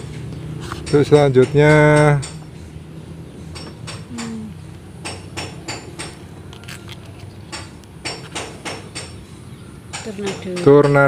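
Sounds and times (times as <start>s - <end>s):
sharp metallic clinks and taps: 0.1s - 2.7s, 3.5s - 9.3s, 9.9s - 11.0s.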